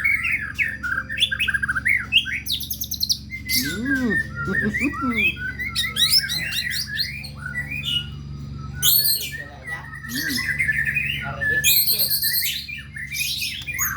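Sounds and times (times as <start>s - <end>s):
bird singing whistled phrases: 0.0s - 13.9s
harsh raspy bird calls: 0.0s - 13.9s.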